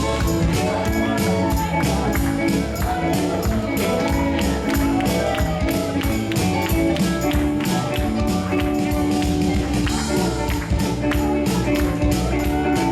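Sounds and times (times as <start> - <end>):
church band music: 0.0 - 12.9.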